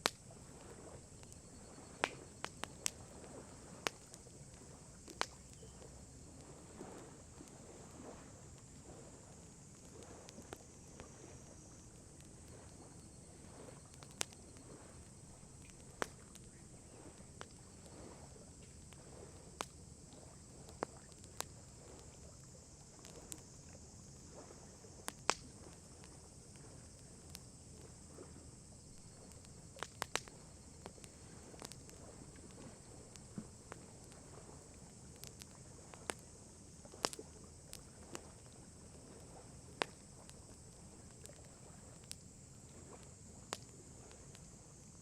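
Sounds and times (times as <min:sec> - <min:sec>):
campfire crackling: 0:00.0 - 0:45.0
faint high hiss: 0:00.0 - 0:45.0.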